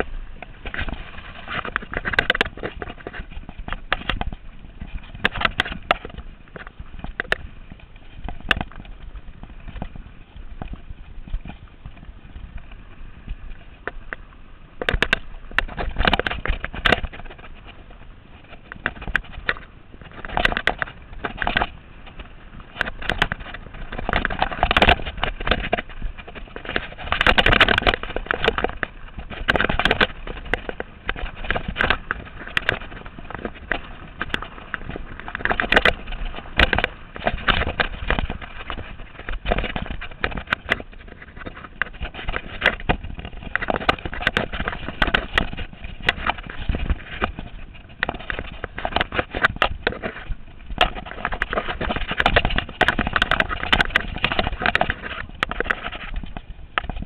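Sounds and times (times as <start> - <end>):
bike rattling and clattering: 0.0 - 57.0
bike tyres crunching on dirt: 0.0 - 57.0.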